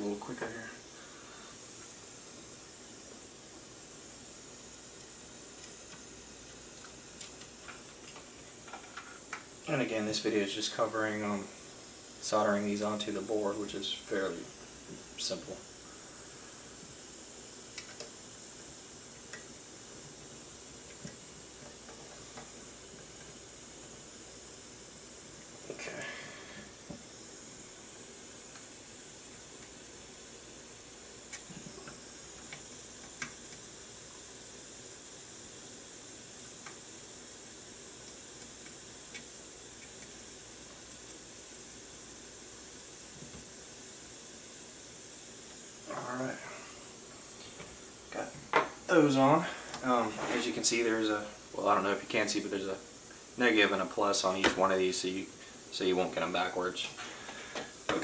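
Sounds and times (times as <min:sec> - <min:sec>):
high-pitched hiss: 0:00.0 - 0:58.0.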